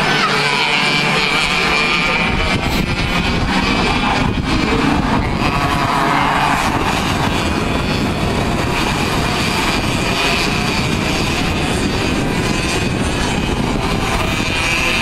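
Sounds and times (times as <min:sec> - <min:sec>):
racing karts passing at high revs: 0:00.0 - 0:15.0.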